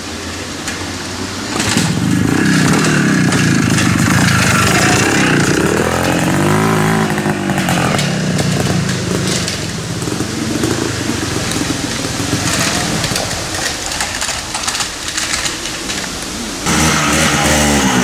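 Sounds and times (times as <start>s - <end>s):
off-road motorcycle engines revving: 0.0s - 18.0s.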